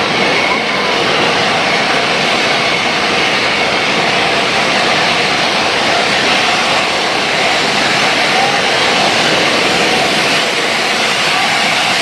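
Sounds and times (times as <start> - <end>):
trains hissing and humming: 0.0 - 12.0.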